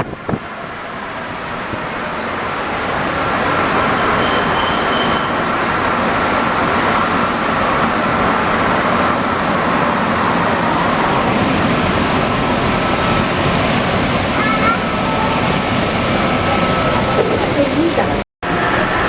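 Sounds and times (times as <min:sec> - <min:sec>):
metro train running: 0:00.0 - 0:19.0.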